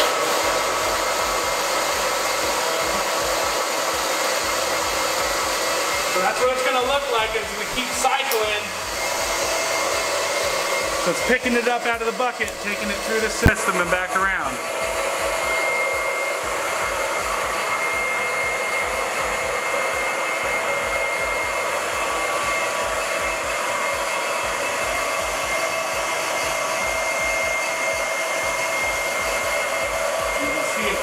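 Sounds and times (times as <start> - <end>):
electric pump whining and whirring: 0.0 - 31.0.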